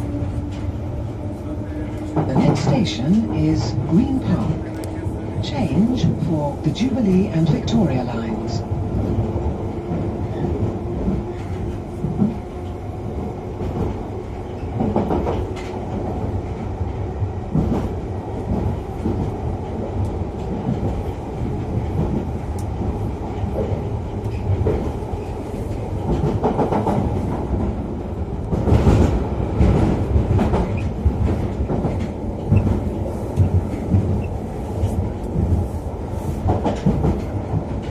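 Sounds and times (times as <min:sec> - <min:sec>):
train rumbling and rattling: 0:00.0 - 0:37.9.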